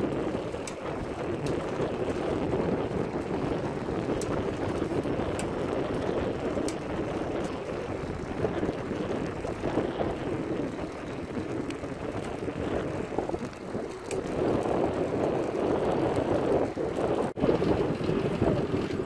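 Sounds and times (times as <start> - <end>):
bicycle tyres rolling on pavement: 0.0 - 19.0
quiet bicycle chain: 0.0 - 19.0
wind on microphone: 0.0 - 19.0.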